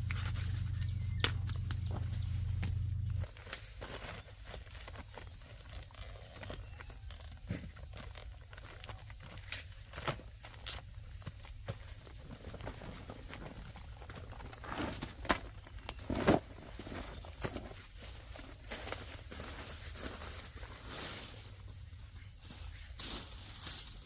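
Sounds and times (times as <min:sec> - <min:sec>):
knocks and rustles of handling: 0:00.0 - 0:21.4
insects chirping: 0:00.0 - 0:24.0.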